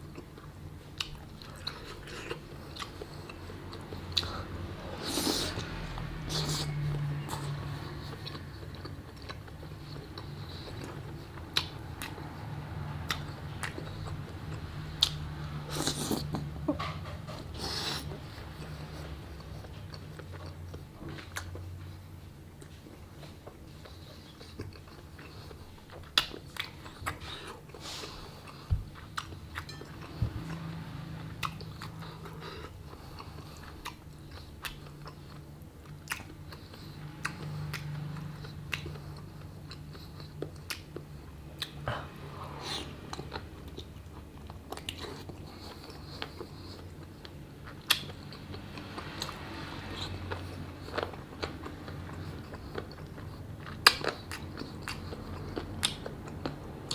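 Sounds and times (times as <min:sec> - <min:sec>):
chewing and biting: 0:00.0 - 0:56.9.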